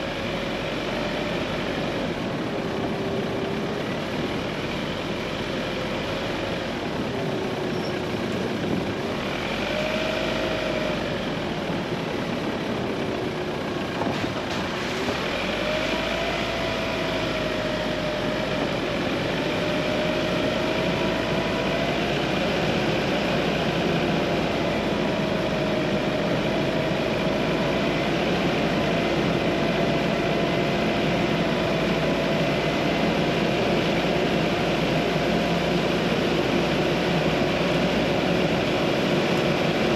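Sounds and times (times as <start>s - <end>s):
droning engine: 0.0s - 39.9s
road and wind noise: 0.0s - 39.9s.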